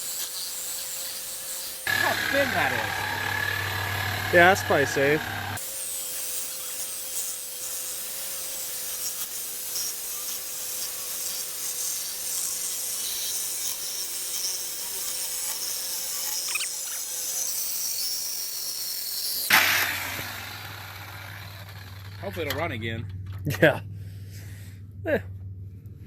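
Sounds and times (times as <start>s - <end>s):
power tool cutting steel pipe: 0.0s - 22.8s.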